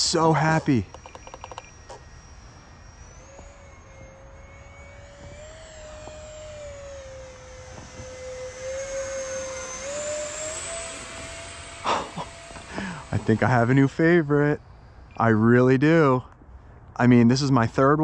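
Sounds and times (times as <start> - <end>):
electric ducted fan whining: 0.0 - 18.0.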